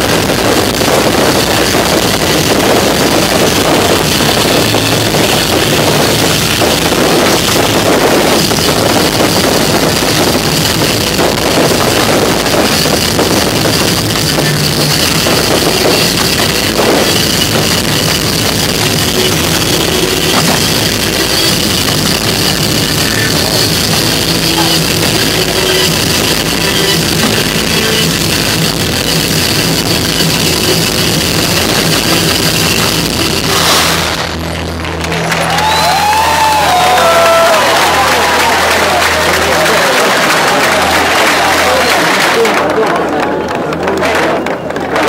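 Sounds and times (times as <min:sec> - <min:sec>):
fireworks fizzing and crackling: 0:00.0 - 0:45.0.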